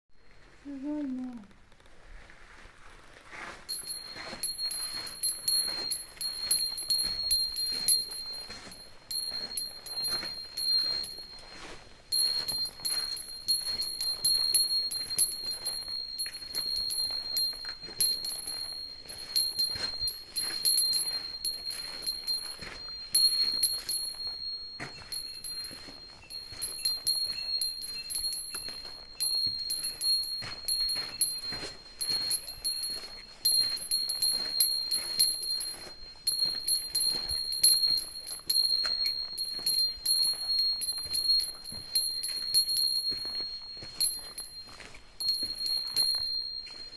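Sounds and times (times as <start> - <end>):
metal bell jingling: 3.6 - 46.9.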